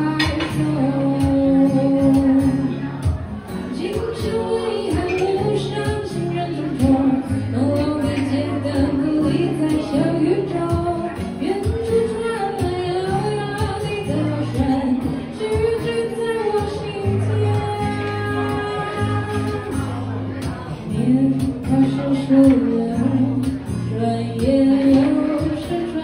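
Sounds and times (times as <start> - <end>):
strummed acoustic guitar: 0.0 - 26.0
woman singing: 0.0 - 26.0.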